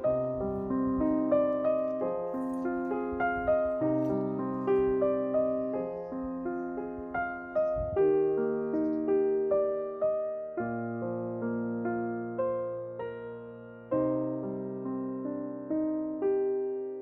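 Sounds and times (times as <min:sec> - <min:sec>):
slow gentle solo piano: 0:00.0 - 0:17.0.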